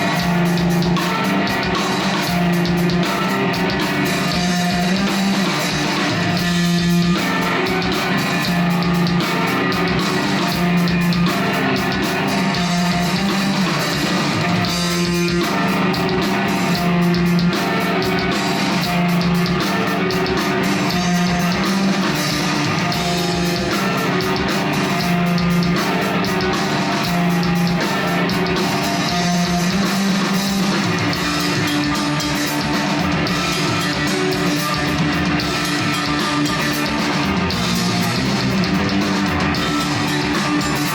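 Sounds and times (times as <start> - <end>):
bass line: 0.0 - 40.9
drum kit: 0.0 - 40.9
heavy electric guitar riff: 0.0 - 40.9.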